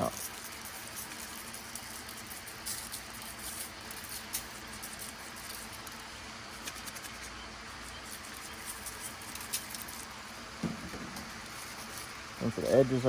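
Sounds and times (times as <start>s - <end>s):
light pattering and ticks: 0.0s - 13.0s
steady hiss: 0.0s - 13.0s.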